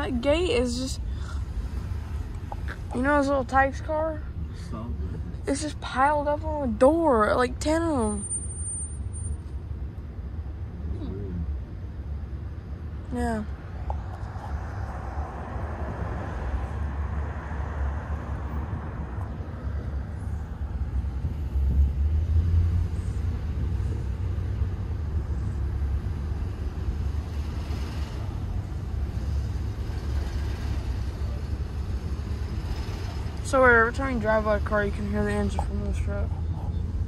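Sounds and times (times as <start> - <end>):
truck engine and road rumble: 0.0 - 37.0.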